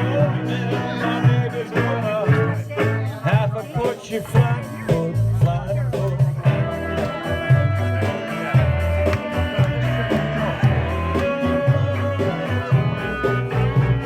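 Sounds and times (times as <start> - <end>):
drums: 0.0 - 14.0
electric guitar: 0.0 - 14.0
moving bass line: 0.0 - 14.0.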